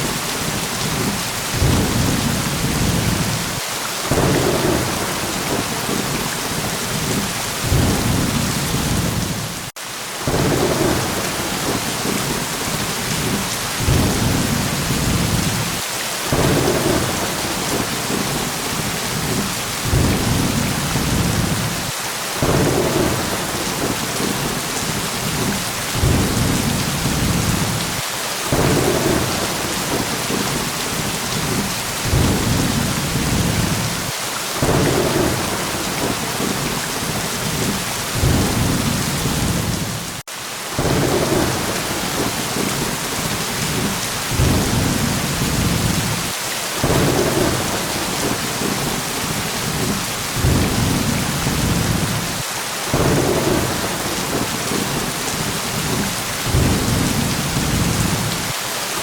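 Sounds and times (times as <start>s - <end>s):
heavy rain: 0.0s - 59.0s
low thunder rumbles: 0.4s - 9.7s, 10.3s - 40.2s, 40.8s - 58.4s.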